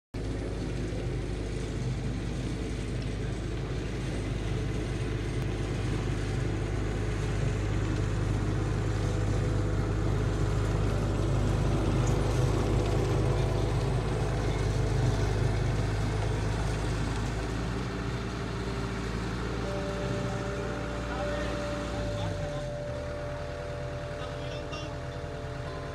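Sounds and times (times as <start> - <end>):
tracked loader engine running: 0.2 - 25.9.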